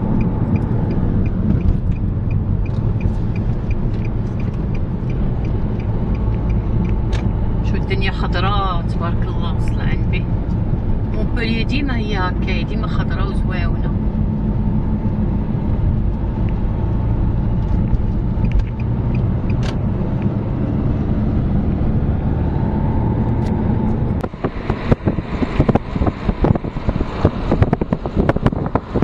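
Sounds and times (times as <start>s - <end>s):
road and engine rumble: 0.0s - 29.0s
wind buffeting microphone: 0.0s - 29.0s.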